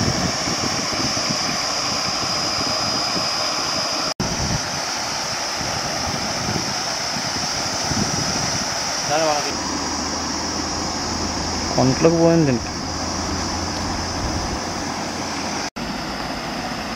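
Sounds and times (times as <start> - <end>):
water rushing over weir: 0.0 - 16.9.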